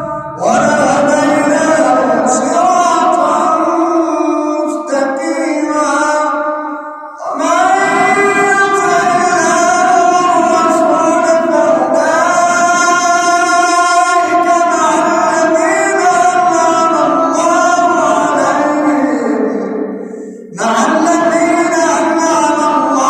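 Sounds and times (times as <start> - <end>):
person reciting melodically: 0.0 - 23.0.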